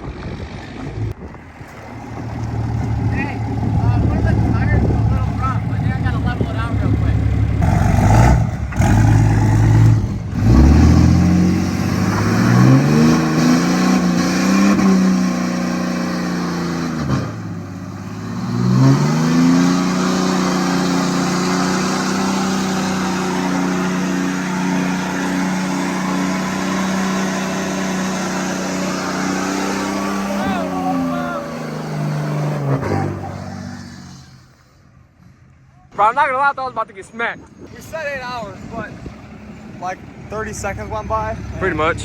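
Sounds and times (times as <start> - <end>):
tires spinning: 0.0 - 35.4
diesel engine revving: 0.0 - 35.6, 37.8 - 42.0.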